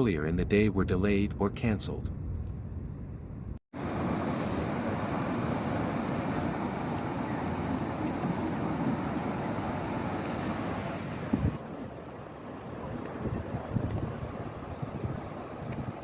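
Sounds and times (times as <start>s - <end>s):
road traffic rumble: 2.8s - 16.0s.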